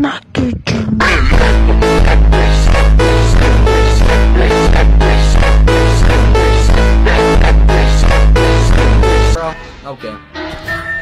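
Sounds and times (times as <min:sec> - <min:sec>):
electronic music with heavy bass: 0:00.0 - 0:09.5.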